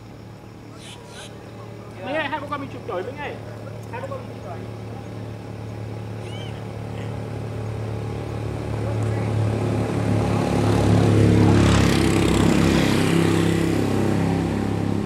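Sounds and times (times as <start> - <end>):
vehicle engine passing by: 0.7 - 15.0.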